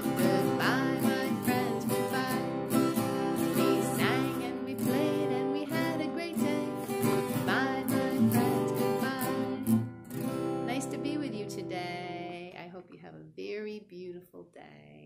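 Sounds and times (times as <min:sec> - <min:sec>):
woman singing: 0:00.0 - 0:09.9, 0:10.6 - 0:15.0
acoustic guitar strumming: 0:00.0 - 0:12.4.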